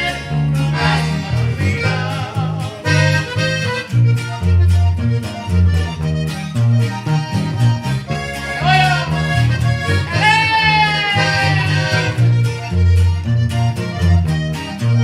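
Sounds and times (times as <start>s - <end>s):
accordion melody: 0.0s - 15.0s
steady bass line: 0.0s - 15.0s.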